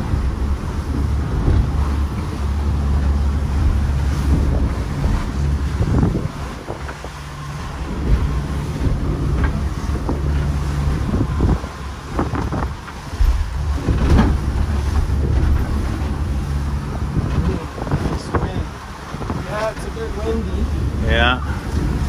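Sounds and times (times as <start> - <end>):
boat motor droning: 0.0 - 22.0
water slapping against hulls: 0.0 - 22.0
wind buffeting microphone: 0.0 - 22.0.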